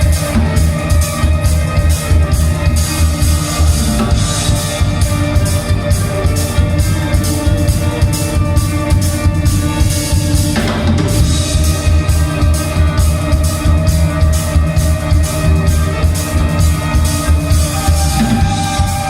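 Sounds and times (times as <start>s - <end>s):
band playing music: 0.0s - 19.0s
drum kit beat: 0.0s - 19.0s.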